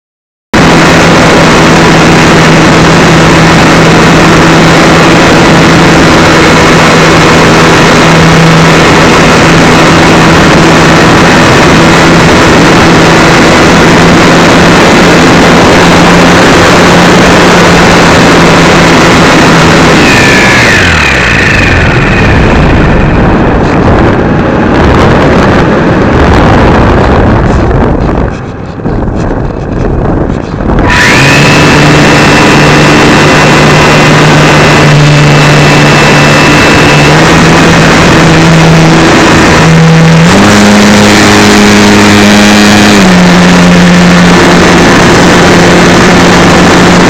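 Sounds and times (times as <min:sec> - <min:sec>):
wind buffeting microphone: 0:00.5 - 0:47.0
electric motor and propeller hum: 0:00.6 - 0:47.0
short falling whine: 0:00.6 - 0:47.0.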